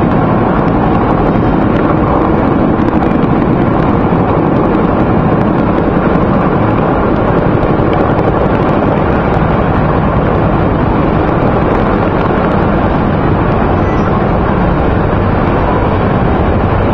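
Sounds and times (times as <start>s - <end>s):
helicopters flying overhead: 0.0s - 16.9s.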